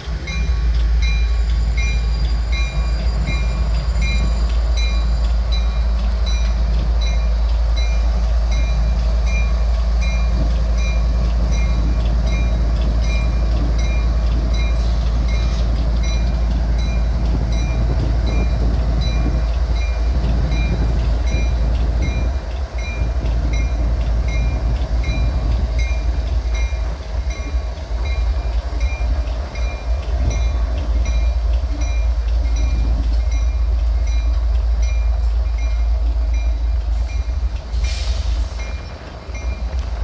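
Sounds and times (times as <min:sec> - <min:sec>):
locomotive engine rumble: 0:00.0 - 0:40.0.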